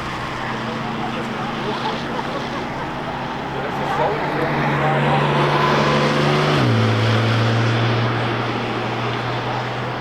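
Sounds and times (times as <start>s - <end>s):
car engine at speed: 0.0s - 10.0s.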